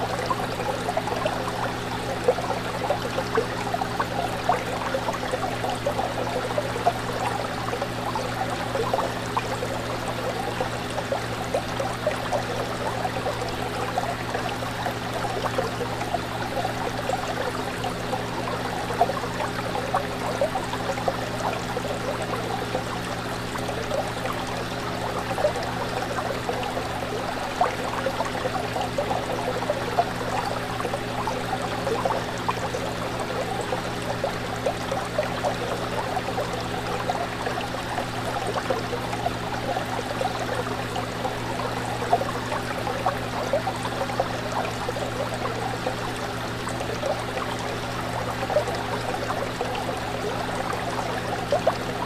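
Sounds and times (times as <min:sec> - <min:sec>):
fish tank water bubbling: 0:00.0 - 0:52.0.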